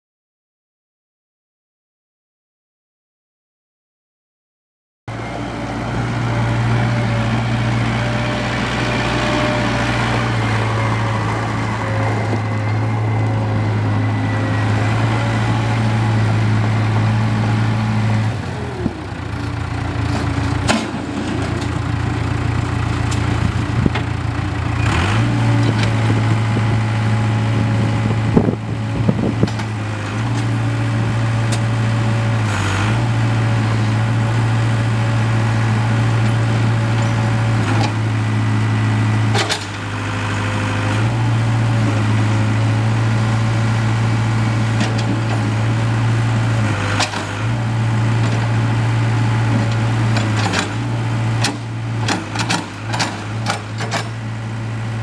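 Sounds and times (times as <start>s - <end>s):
diesel engine running: 5.1s - 55.0s.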